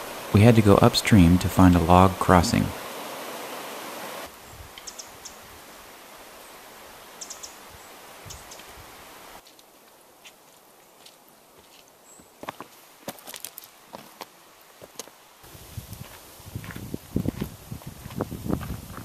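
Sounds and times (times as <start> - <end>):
forest background hiss: 0.0 - 19.0.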